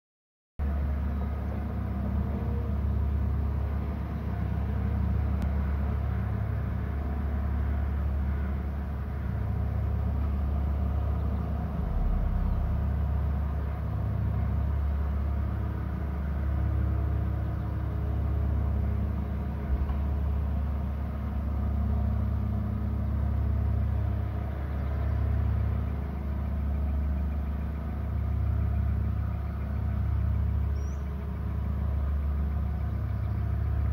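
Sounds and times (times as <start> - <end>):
low rumble: 0.6 - 33.9.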